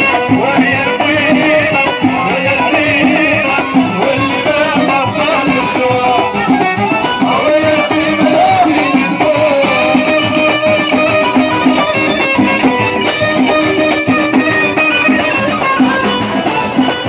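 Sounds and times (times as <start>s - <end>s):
hand drum beat: 0.0s - 17.0s
keyboard: 0.0s - 17.0s
violin melody: 0.0s - 17.0s.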